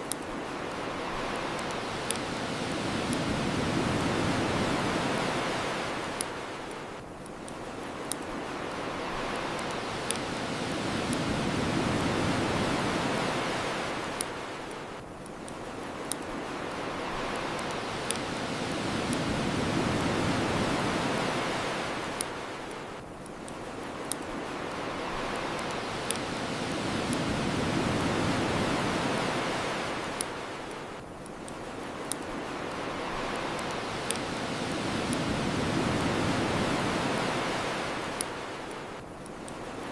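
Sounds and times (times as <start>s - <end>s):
bonfire crackling and popping: 0.0s - 39.9s
ocean waves washing onto shore: 0.0s - 39.9s.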